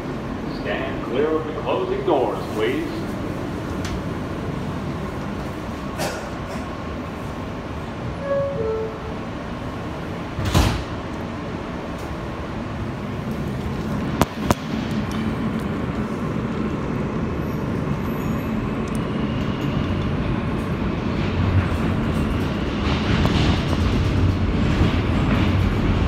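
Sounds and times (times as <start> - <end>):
subway car running noise: 0.0 - 26.0.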